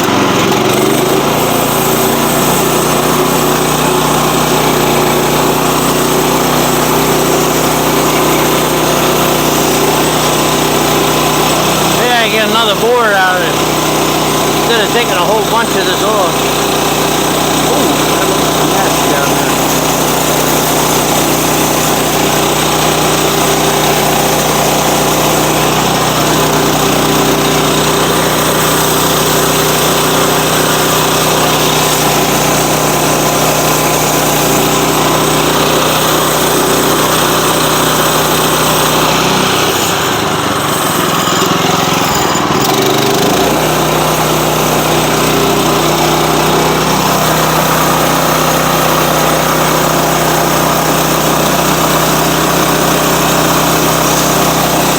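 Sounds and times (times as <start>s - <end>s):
small engine droning: 0.0s - 54.9s.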